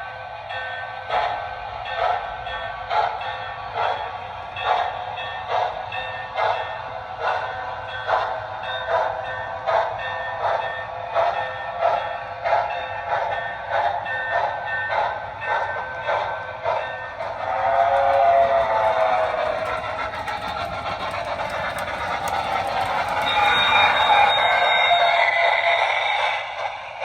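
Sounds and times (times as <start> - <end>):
model steam locomotive chuffing: 0.3 - 27.0.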